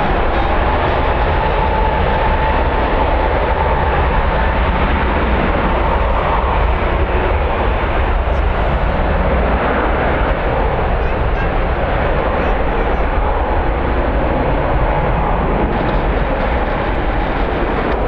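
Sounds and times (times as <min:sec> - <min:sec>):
jet airliner engines: 0:00.0 - 0:18.0
wind blowing on microphone: 0:00.0 - 0:18.0.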